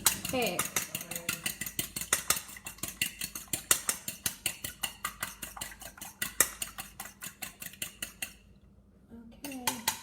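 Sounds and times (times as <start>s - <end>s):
fork clinking against bowl: 0.0s - 8.4s.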